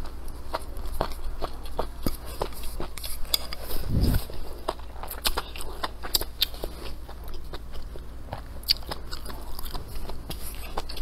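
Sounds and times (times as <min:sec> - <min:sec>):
chewing crisp mushrooms: 0:00.0 - 0:11.0.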